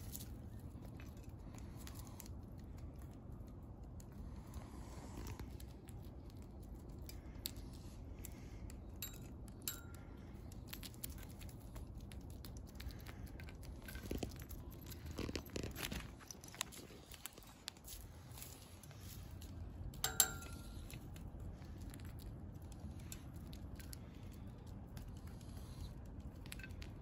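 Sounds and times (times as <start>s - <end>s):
low steady rumble: 0.0s - 27.0s
soft clicks and rustles: 0.0s - 27.0s.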